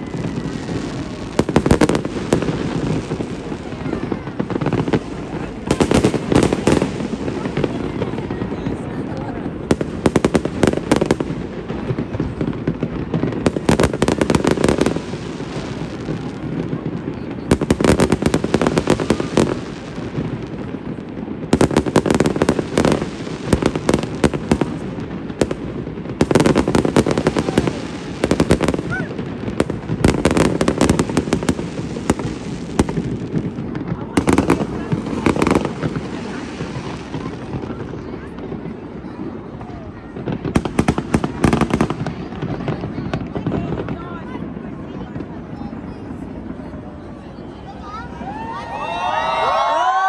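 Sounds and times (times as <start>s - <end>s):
crowd noise: 0.0s - 50.0s
fireworks crackling bangs: 0.0s - 50.0s.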